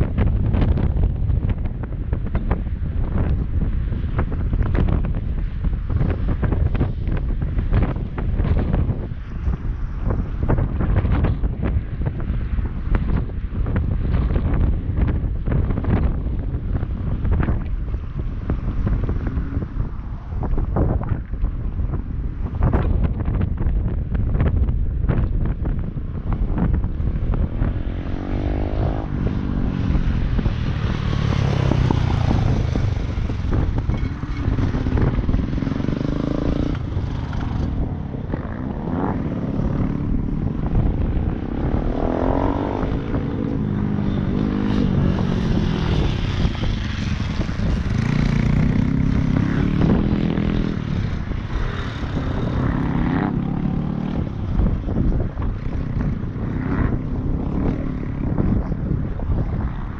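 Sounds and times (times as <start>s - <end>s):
motorcycle engines revving: 0.0s - 59.9s
wind rumble on microphone: 0.0s - 59.9s.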